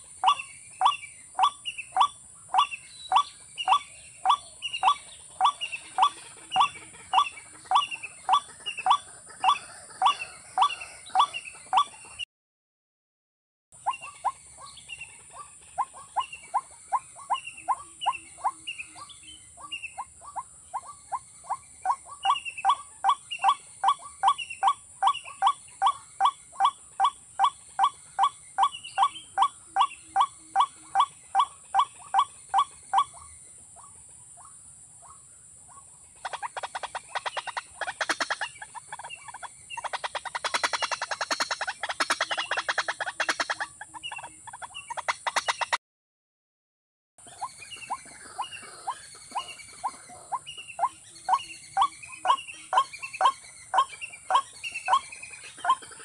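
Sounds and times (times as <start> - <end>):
bird calling hollow repeated notes: 0.0 - 12.3, 13.8 - 34.5, 35.1 - 45.8, 47.2 - 56.0.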